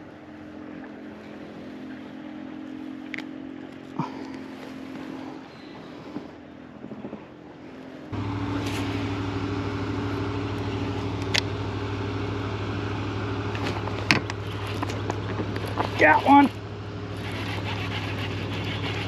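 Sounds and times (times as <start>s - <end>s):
steady low motor hum: 0.0s - 19.0s.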